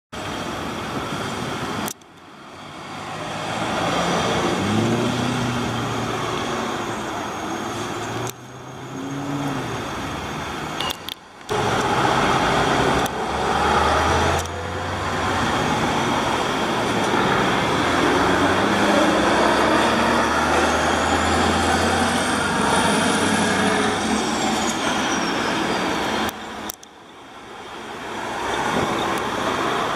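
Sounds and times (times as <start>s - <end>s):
heavy diesel engines accelerating: 0.2s - 29.9s
truck diesel engine droning: 0.2s - 29.9s.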